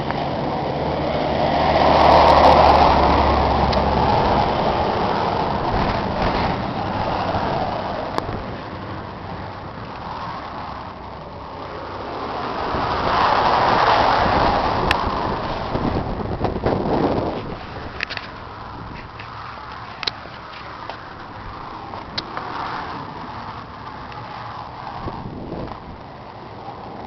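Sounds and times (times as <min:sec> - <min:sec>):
steady low hum: 0:00.0 - 0:27.0
wind buffeting microphone: 0:00.0 - 0:27.0.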